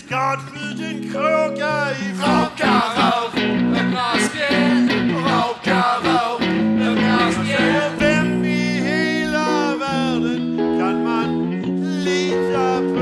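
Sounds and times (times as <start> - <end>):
person singing: 1.0 - 13.0
rock band with guitar: 1.4 - 13.0.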